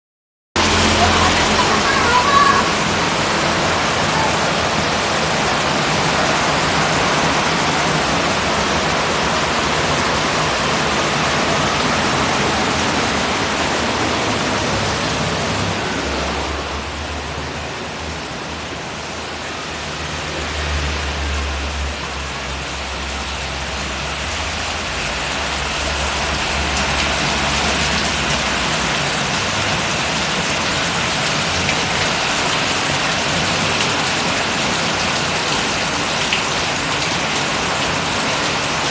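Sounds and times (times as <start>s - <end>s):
heavy rain falling: 0.6s - 38.9s.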